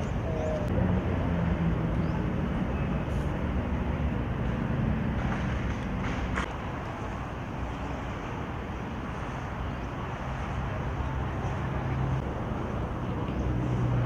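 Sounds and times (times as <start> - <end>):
low engine hum: 0.0 - 14.0
road traffic noise: 0.0 - 14.0.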